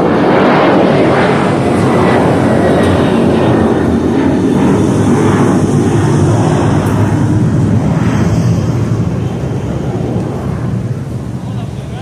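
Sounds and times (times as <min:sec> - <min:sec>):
jet airliner engine rumble: 0:00.0 - 0:12.0.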